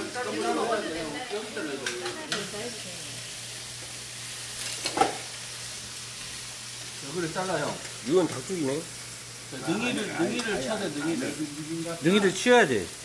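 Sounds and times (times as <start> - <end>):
broth hissing in a pan: 0.0 - 13.0.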